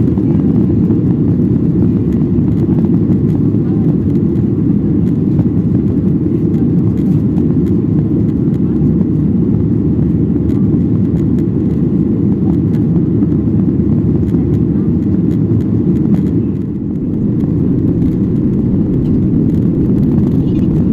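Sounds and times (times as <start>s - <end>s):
airplane cabin engine rumble: 0.0s - 20.9s.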